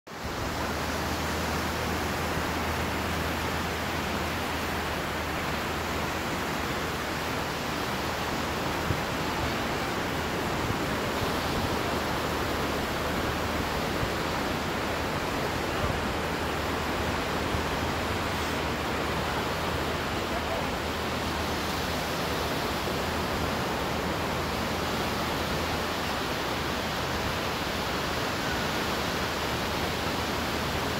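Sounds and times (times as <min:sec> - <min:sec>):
ocean surf: 0:00.1 - 0:30.9
wind: 0:00.1 - 0:30.9.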